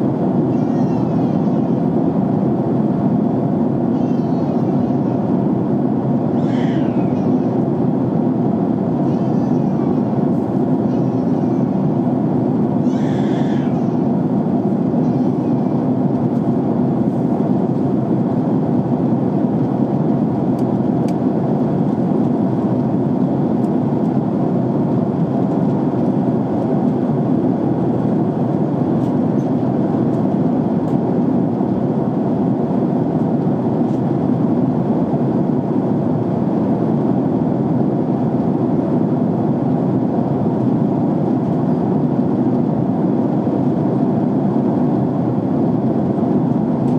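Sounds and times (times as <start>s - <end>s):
jet airliner cabin rumble: 0.0s - 46.9s.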